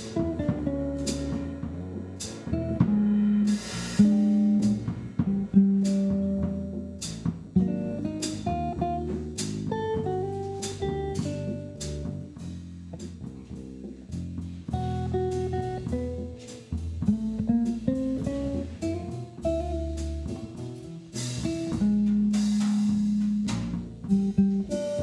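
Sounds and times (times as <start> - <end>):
drum kit with cymbal: 0.0 - 25.0
electric bass guitar: 0.0 - 25.0
jazz guitar: 0.0 - 25.0.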